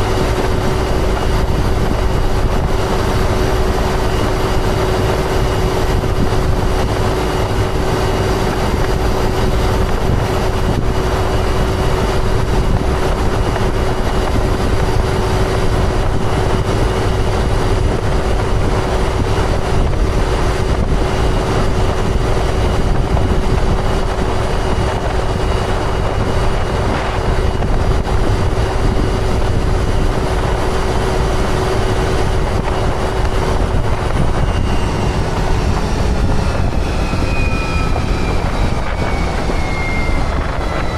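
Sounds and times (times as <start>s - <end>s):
machine whine: 0.0s - 40.9s
sprayer engine droning: 0.0s - 40.9s.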